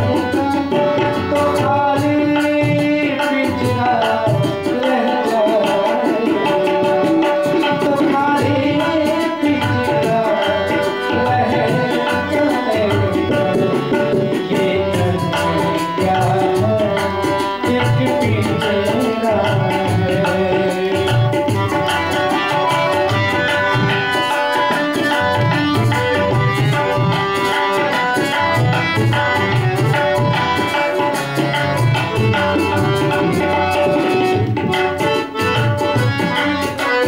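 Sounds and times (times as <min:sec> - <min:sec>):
harmonium chords: 0:00.0 - 0:37.0
man singing into a microphone: 0:00.0 - 0:37.0
tabla rhythm: 0:00.0 - 0:37.0.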